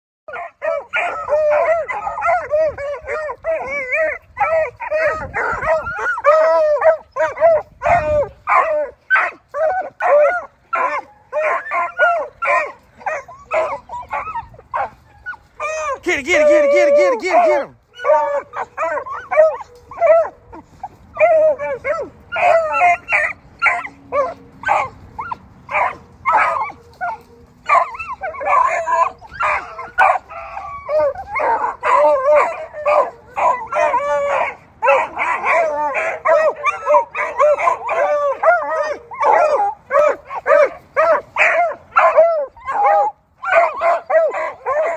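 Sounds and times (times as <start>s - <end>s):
hounds yipping and barking: 0.3s - 44.9s.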